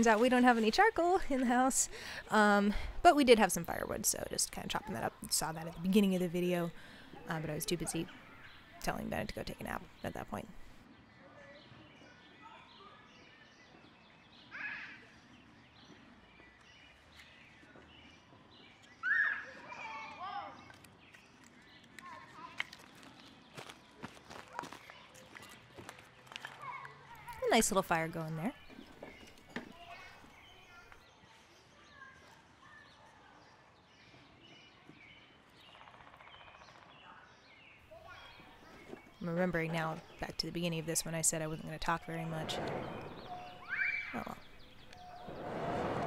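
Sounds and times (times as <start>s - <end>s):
birds chirping: 0.0s - 32.2s, 33.8s - 46.0s.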